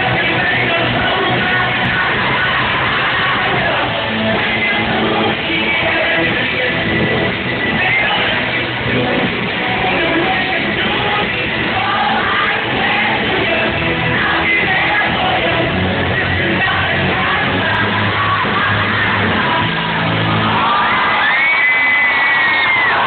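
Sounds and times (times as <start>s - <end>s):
person singing into microphone: 0.0s - 21.9s.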